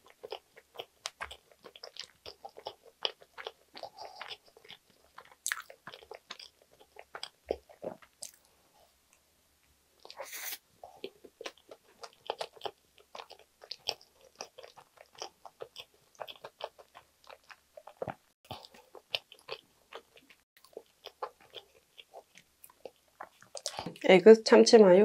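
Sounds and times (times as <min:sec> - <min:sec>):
person chewing with wet clicks: 0:00.0 - 0:08.5, 0:11.0 - 0:24.0.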